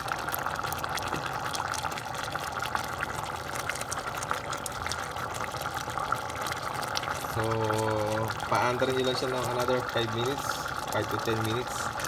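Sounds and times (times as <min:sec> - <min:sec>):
pot boiling with small pops: 0:00.0 - 0:12.0.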